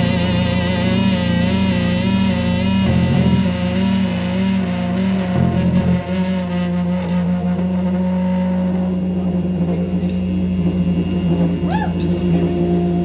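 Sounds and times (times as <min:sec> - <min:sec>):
rock band droning chord: 0:00.0 - 0:13.0.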